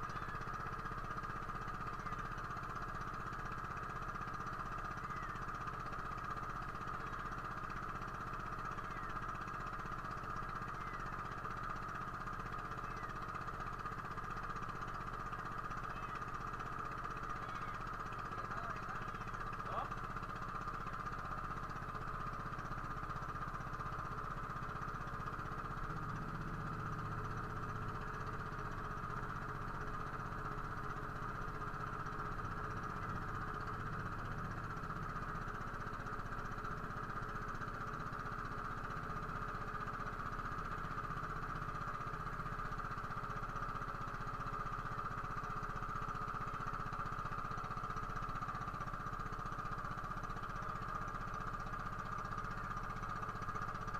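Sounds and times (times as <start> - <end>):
small boat engine running: 0.0 - 53.9.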